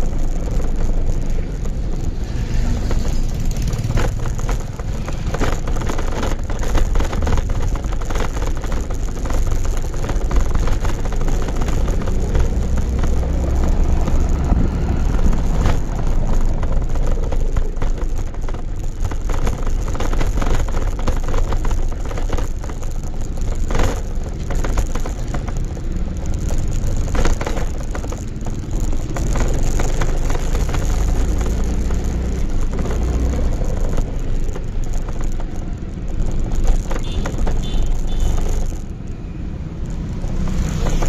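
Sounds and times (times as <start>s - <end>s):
scooter engine running: 0.0s - 39.0s
scooter vibration rattle: 0.0s - 41.0s.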